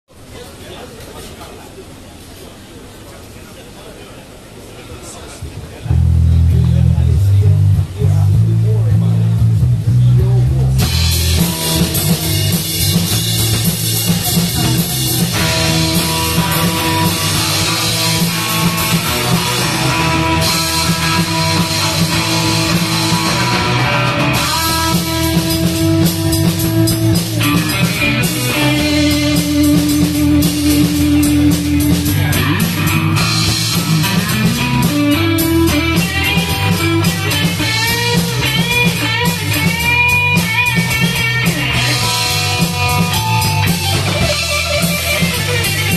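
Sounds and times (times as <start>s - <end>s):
electric guitar string bends: 5.8s - 45.9s
live rock band playing: 5.8s - 45.9s.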